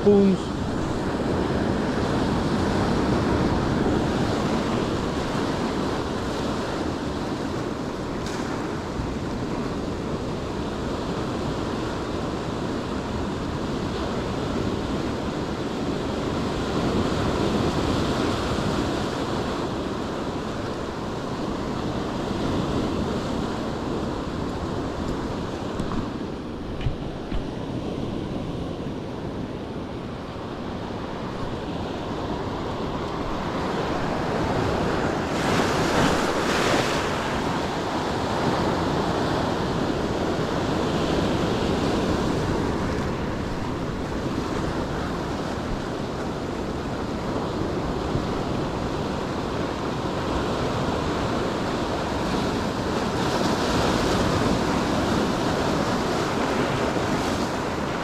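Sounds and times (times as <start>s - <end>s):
ocean waves breaking: 0.0s - 58.0s
wind on microphone: 0.0s - 58.0s.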